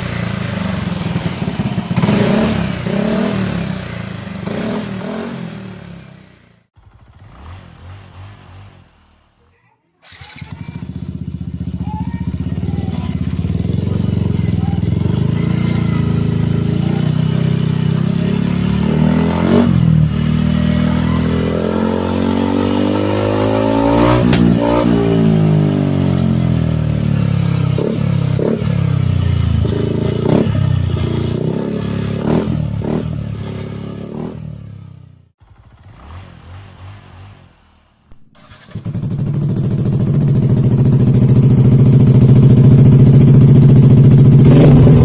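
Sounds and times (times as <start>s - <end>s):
scooter engine revving: 0.0s - 45.0s.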